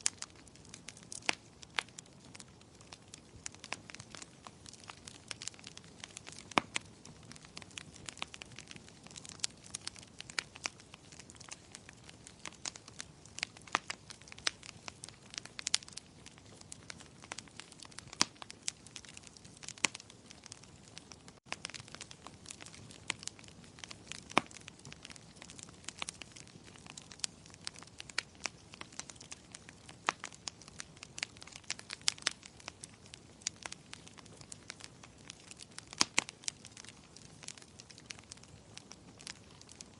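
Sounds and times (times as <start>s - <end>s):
wood fire popping: 0.0s - 39.9s.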